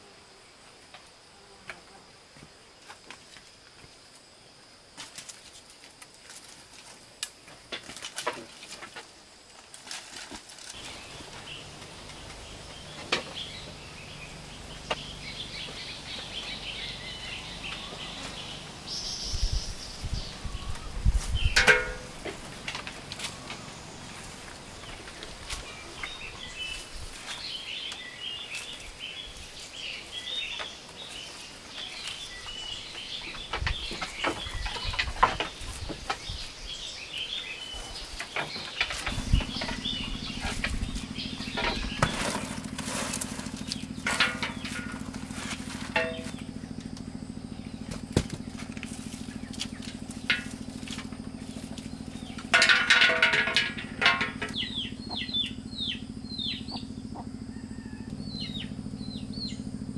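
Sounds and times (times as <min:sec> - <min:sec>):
small birds chirping: 0:10.7 - 0:59.9
low engine hum: 0:10.8 - 0:59.9.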